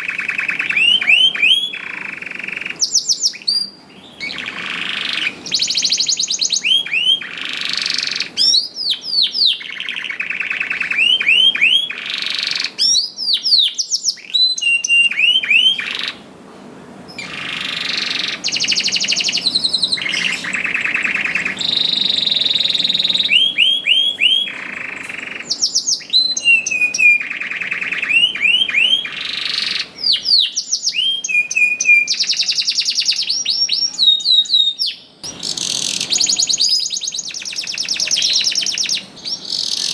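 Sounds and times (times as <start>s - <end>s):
canary singing trills: 0.0s - 16.3s, 17.1s - 39.9s.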